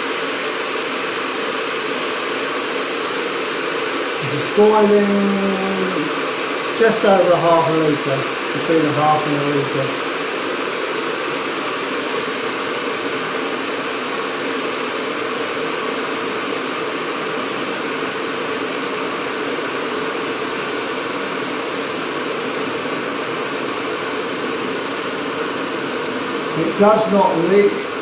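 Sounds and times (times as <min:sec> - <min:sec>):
electric kettle heating water: 0:00.0 - 0:28.0.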